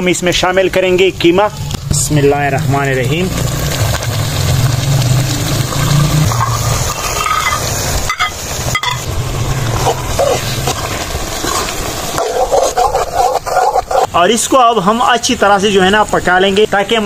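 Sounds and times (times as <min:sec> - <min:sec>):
meat sizzling in hot fat: 0:00.7 - 0:16.5.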